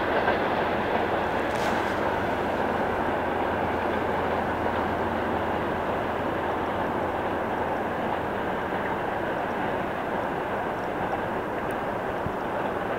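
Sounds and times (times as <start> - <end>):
train wheels running on rails: 0.0 - 12.9.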